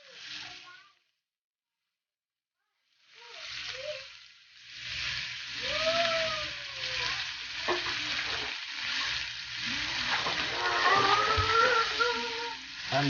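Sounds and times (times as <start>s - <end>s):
food sizzling in oil: 0.0s - 1.1s, 2.6s - 13.0s.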